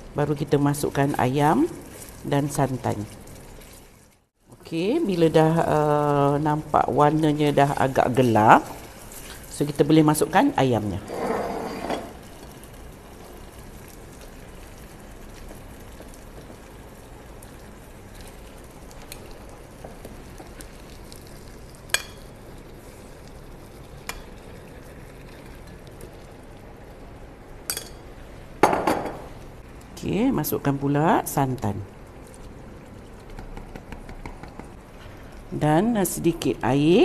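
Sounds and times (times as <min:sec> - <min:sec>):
spice paste sizzling and bubbling: 0:00.0 - 0:10.6, 0:12.1 - 0:28.3, 0:31.1 - 0:37.0.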